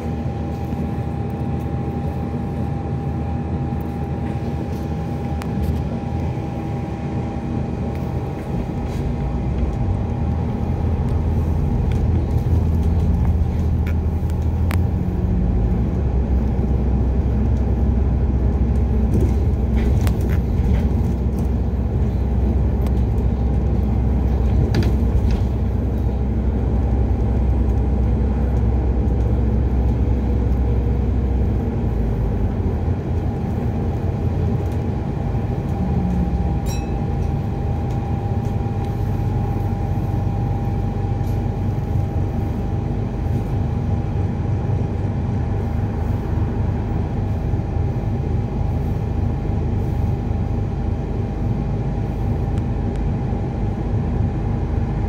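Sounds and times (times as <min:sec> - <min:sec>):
bus drivetrain rumble with whine: 0:00.0 - 0:55.0.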